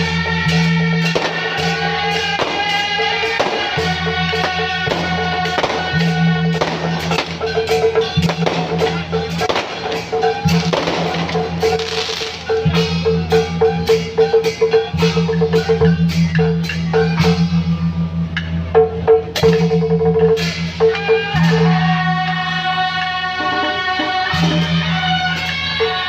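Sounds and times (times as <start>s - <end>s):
fast percussion beat: 0.0s - 22.8s.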